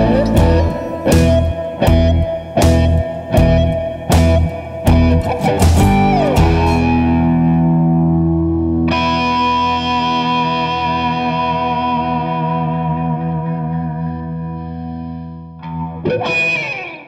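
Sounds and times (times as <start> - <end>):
guitar pitch sliding down: 0.0 - 17.0
guitar strummed chords: 0.0 - 17.0.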